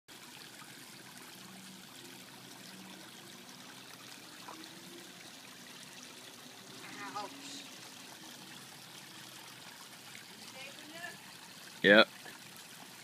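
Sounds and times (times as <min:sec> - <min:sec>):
fountain water splashing: 0:00.1 - 0:13.0.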